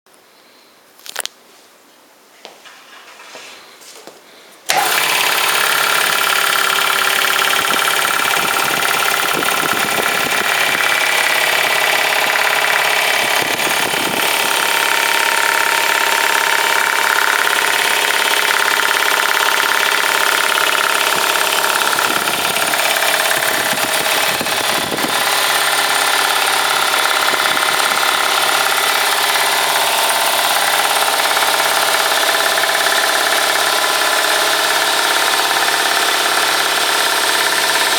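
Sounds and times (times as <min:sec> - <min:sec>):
air compressor running: 0:04.6 - 0:37.9.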